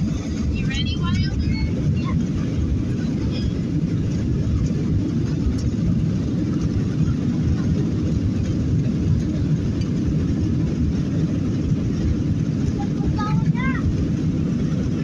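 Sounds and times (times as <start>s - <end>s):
jet engines at takeoff thrust: 0.0s - 15.0s
wheels rumbling on runway: 0.0s - 15.0s.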